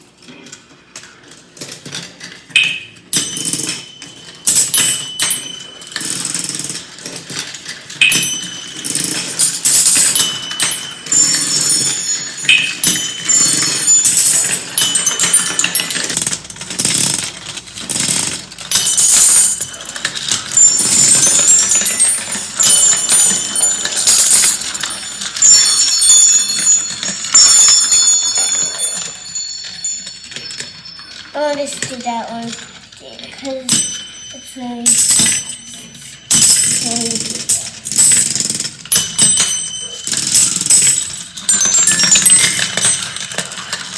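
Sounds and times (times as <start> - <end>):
high ringing metal tones: 2.6 - 6.8, 7.9 - 16.4, 18.0 - 32.6, 33.5 - 43.5
marbles clattering down plastic run: 3.0 - 32.8, 33.5 - 43.9.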